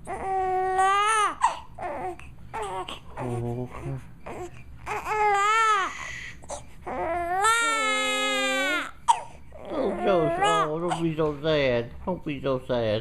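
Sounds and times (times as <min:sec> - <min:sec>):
infant crying: 0:00.0 - 0:11.4.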